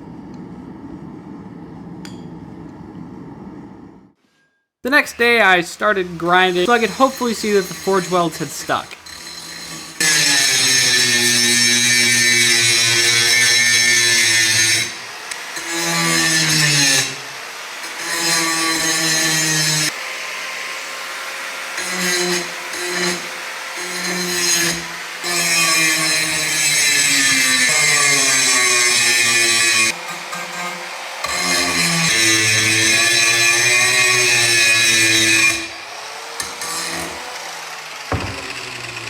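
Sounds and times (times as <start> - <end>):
power grinder grinding steel: 5.2 - 39.0.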